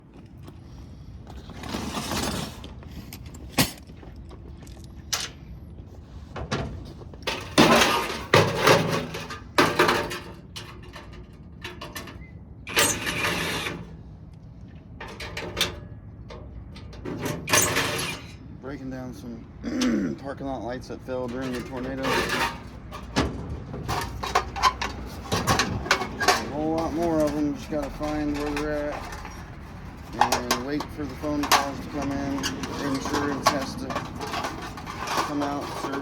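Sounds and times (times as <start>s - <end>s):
metal clanking and scraping: 1.3s - 36.0s.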